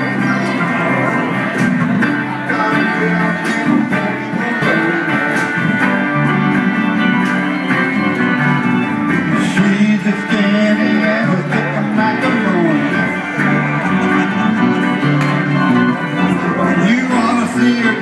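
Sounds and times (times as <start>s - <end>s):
small band playing instrumental: 0.0s - 18.0s
strummed and picked guitars: 0.0s - 18.0s.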